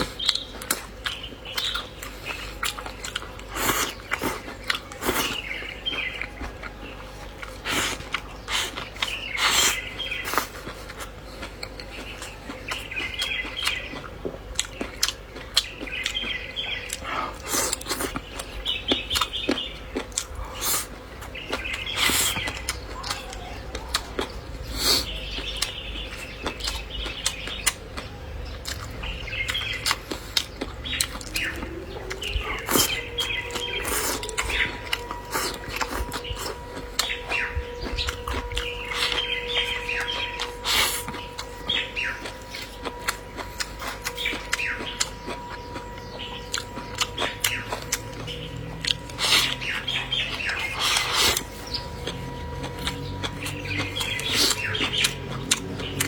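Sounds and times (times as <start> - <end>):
birds chirping: 0.0 - 56.0
chewing and lip-smacking: 0.0 - 56.0
steady hum: 0.0 - 56.0.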